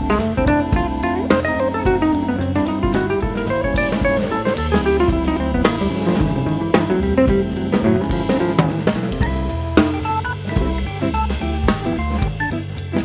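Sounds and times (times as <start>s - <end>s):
instrumental music with drums: 0.0s - 13.0s.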